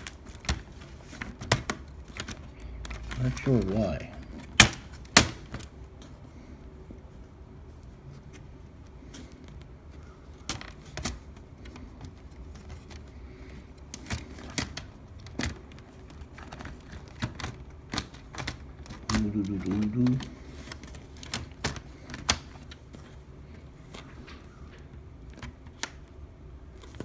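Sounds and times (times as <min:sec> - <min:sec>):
clicks of laptop plastic case: 0:00.0 - 0:06.1, 0:08.3 - 0:26.2.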